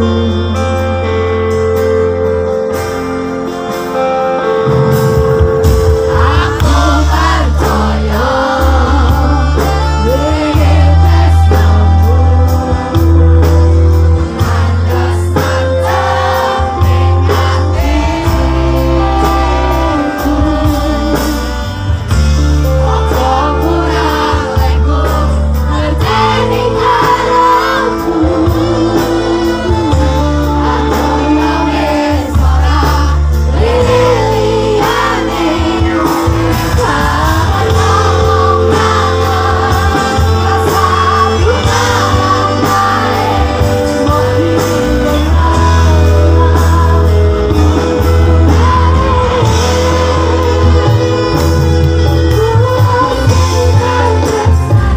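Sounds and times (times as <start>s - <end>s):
live rock band: 0.0s - 54.9s
woman singing with vibrato: 5.9s - 13.5s, 14.4s - 21.7s, 22.7s - 54.9s.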